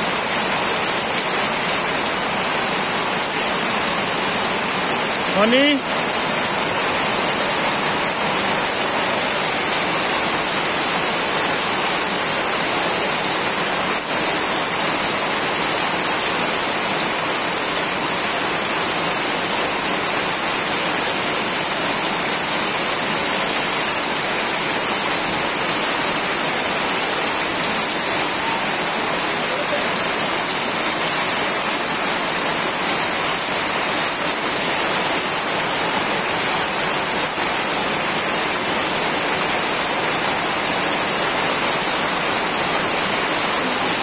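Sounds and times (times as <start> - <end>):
heavy rain pouring: 0.0 - 44.0
runoff streaming off roof: 0.1 - 44.0.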